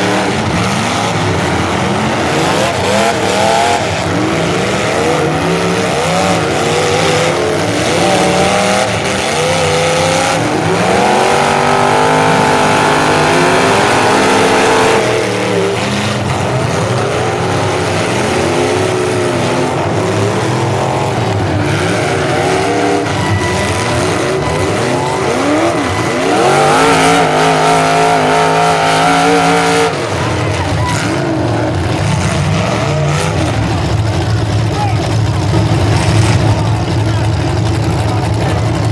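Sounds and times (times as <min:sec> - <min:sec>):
car engines revving: 0:00.0 - 0:38.9
cars colliding: 0:00.0 - 0:38.9.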